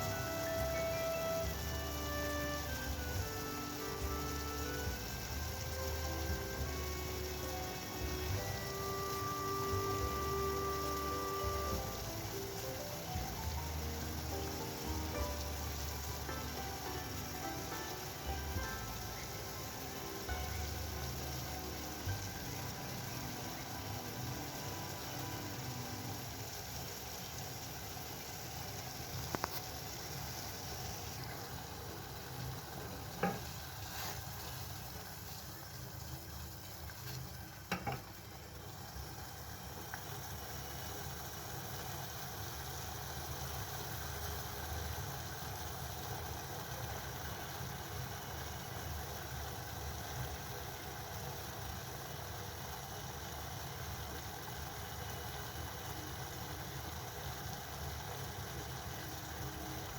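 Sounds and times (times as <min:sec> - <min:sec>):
water boiling in a pan: 0:00.0 - 0:59.9.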